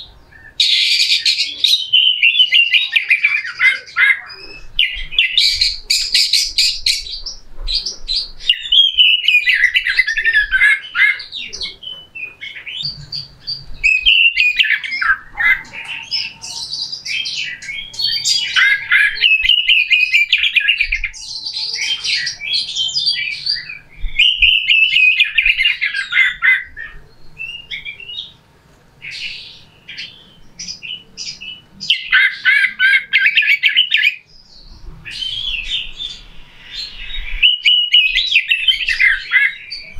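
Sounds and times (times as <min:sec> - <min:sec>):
bird singing scratchy chattering song: 0:00.0 - 0:28.4, 0:29.0 - 0:39.9.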